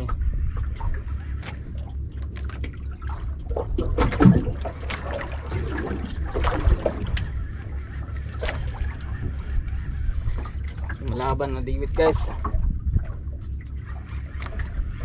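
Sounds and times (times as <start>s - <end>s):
steady low rumble: 0.0s - 15.0s
water lapping against boat hull: 0.0s - 15.0s.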